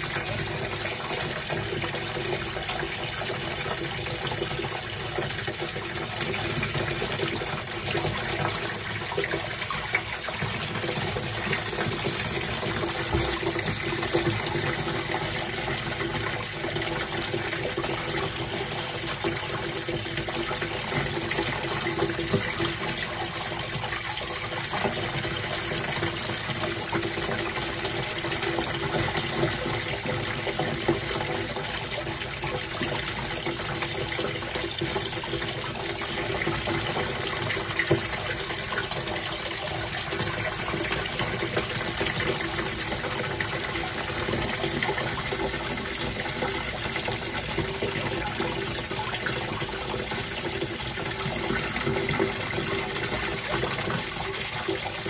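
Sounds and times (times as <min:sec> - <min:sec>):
running water gushing: 0:00.0 - 0:55.0.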